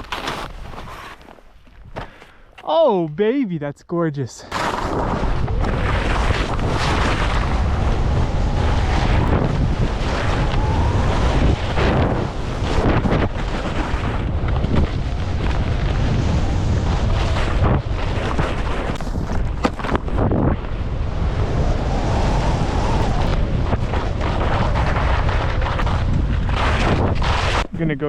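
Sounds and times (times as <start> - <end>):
skis scraping over snow: 4.5 - 28.0
wind buffeting microphone: 4.8 - 28.0.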